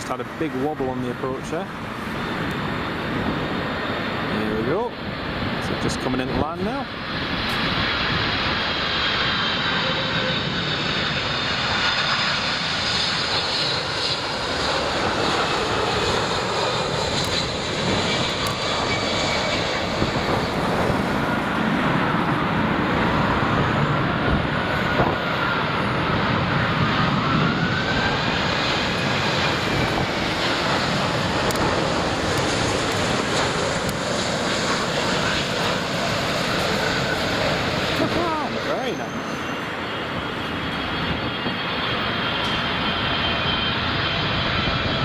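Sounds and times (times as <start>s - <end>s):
jet airliner engines rushing: 0.0s - 45.0s.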